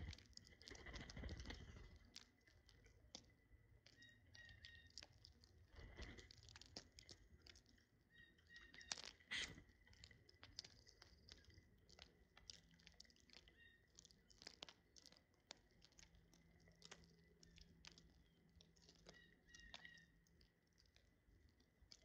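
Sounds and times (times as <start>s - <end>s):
birds pecking seed: 0.0s - 22.0s.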